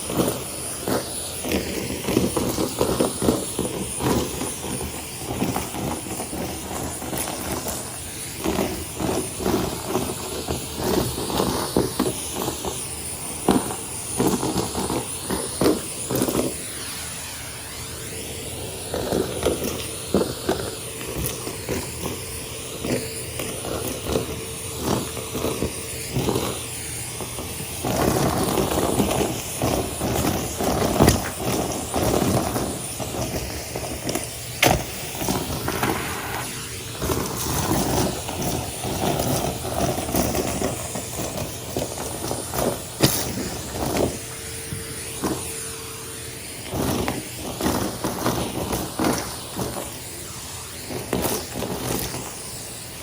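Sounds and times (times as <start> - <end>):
debris rattling up vacuum hose: 0.0 - 53.0
vacuum cleaner running: 0.0 - 53.0.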